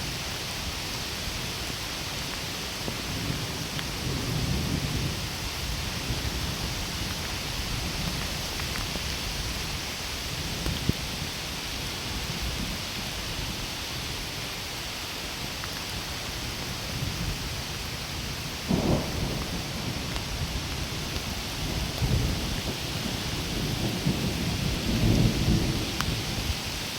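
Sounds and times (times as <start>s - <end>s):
heavy rain on foliage: 0.0s - 26.9s.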